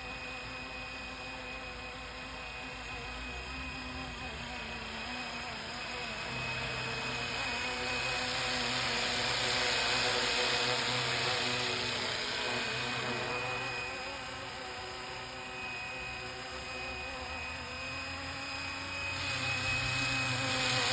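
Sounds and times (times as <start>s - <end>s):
rc helicopter motor and rotor whine: 0.0s - 20.9s.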